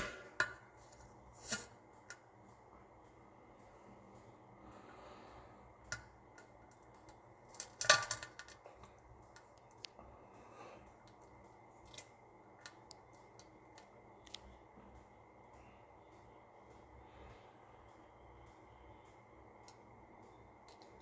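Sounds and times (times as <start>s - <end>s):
faint steady background noise: 0.0s - 21.0s.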